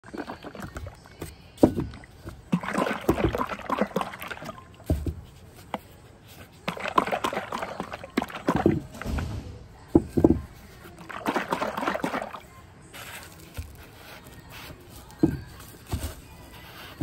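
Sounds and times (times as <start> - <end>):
liquid sloshing in plastic jar: 0.0 - 17.0.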